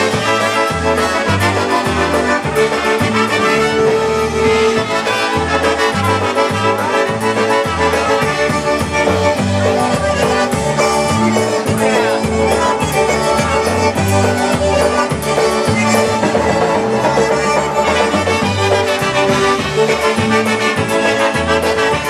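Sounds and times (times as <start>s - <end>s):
concertina: 0.0s - 22.0s
drums: 0.0s - 22.0s
oom-pah bass: 0.0s - 22.0s
piano accordion: 0.0s - 22.0s
trumpets: 0.0s - 22.0s.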